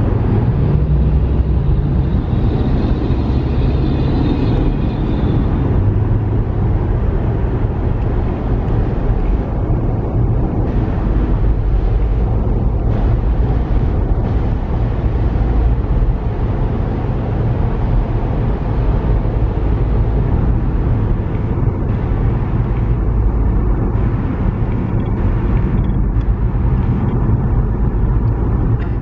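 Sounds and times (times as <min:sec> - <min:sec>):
car road rumble: 0:00.0 - 0:29.0
passing traffic: 0:00.0 - 0:29.0.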